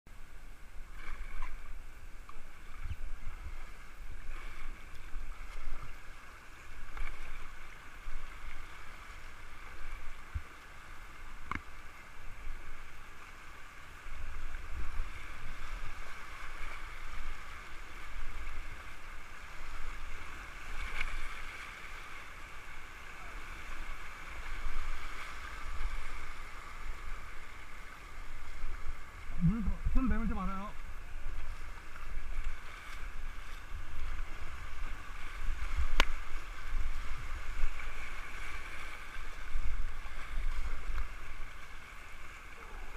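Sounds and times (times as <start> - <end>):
river water rushing and splashing: 0.1 - 42.9.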